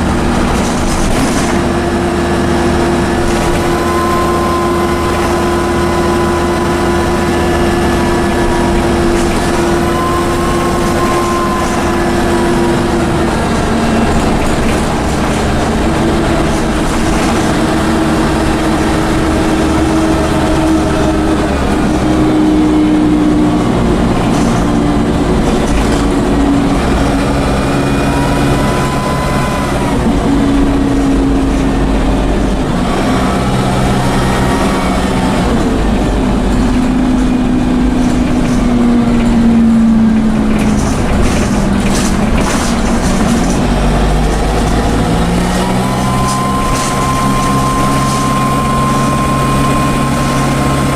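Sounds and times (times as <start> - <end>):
bus diesel engine: 0.0 - 50.9
turbocharger whine: 0.0 - 50.9.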